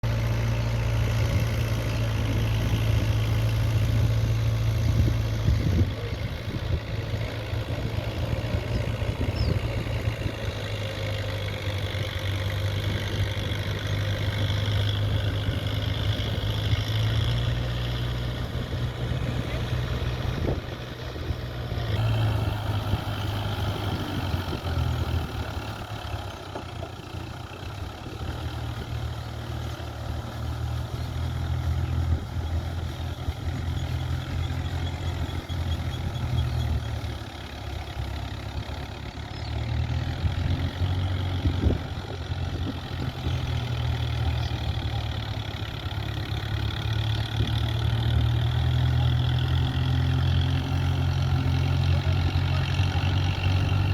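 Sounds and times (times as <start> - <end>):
tractor diesel engine humming: 0.0 - 53.9.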